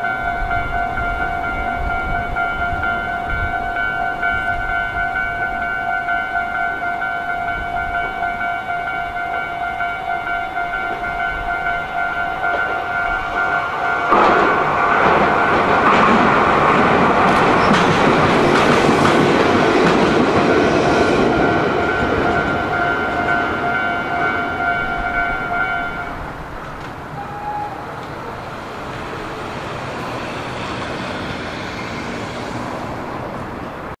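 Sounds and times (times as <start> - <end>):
train wheels rumbling over rails: 0.0 - 34.0.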